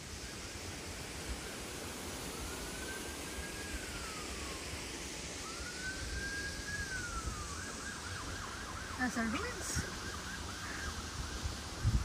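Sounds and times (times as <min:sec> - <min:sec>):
steady rushing background noise: 0:00.0 - 0:12.0
emergency vehicle siren wailing: 0:02.0 - 0:11.8.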